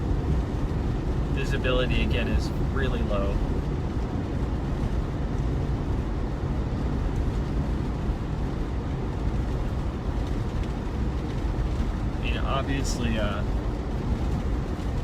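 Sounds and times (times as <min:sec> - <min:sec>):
defroster fan blowing: 0:00.0 - 0:15.0
tyre and engine drone: 0:00.0 - 0:15.0.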